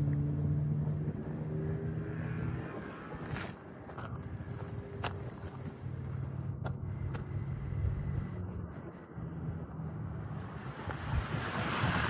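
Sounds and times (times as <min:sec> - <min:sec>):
jet engines rumbling: 0:01.1 - 0:12.0.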